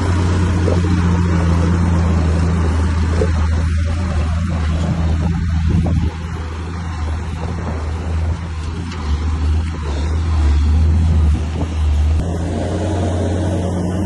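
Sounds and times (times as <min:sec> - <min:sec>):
bulldozer diesel engine humming: 0:00.0 - 0:14.0.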